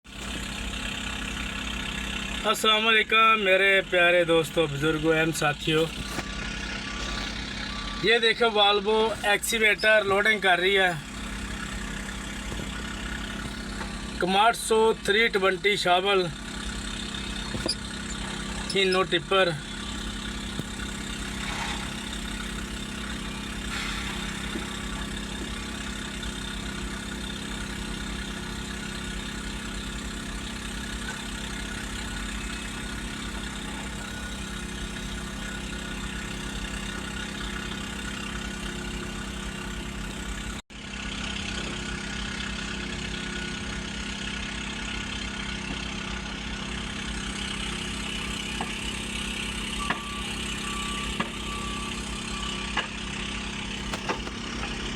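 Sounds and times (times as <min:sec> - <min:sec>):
heavy diesel engines idling: 0:00.1 - 0:54.9.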